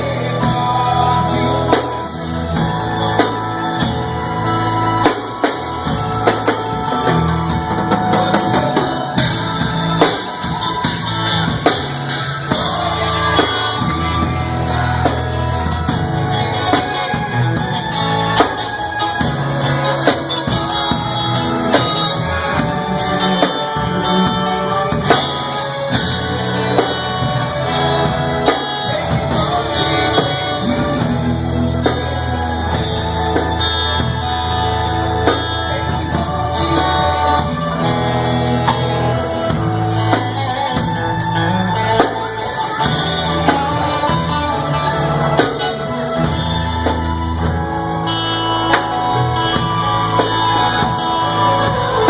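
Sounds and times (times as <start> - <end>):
bass: 0.0 - 52.0
guitar: 0.0 - 52.0
person singing: 0.0 - 52.0
steady drum beat: 0.0 - 52.0.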